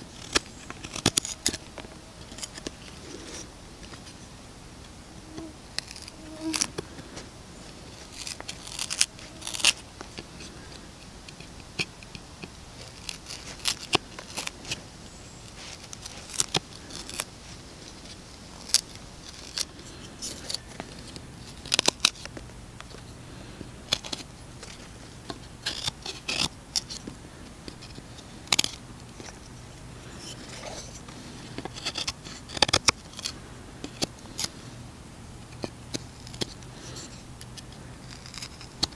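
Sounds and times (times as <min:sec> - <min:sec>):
knife scraping wood: 0:00.0 - 0:04.2, 0:05.4 - 0:07.3, 0:07.9 - 0:22.3, 0:23.9 - 0:27.1, 0:27.7 - 0:34.6, 0:35.5 - 0:38.9.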